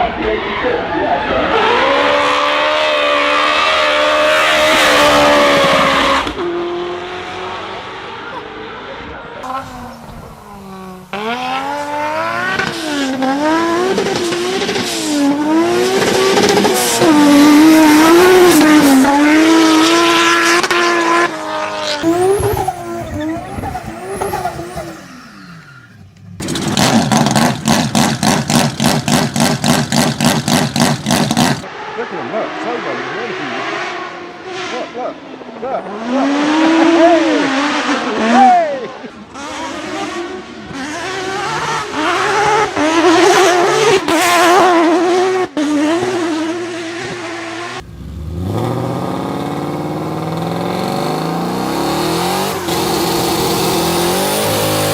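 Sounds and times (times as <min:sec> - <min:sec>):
car engine running at high revs: 0:01.5 - 0:25.3, 0:26.2 - 0:31.7, 0:35.8 - 0:54.9.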